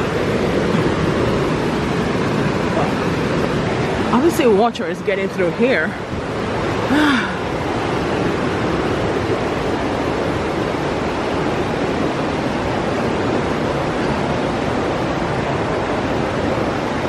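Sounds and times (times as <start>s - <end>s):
creek water flowing over rocks: 0.0s - 17.0s.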